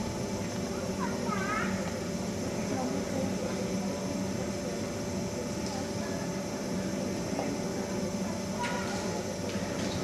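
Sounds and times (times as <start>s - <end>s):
faint indistinct voices: 0.0s - 10.0s
hall hum and hiss: 0.0s - 10.0s.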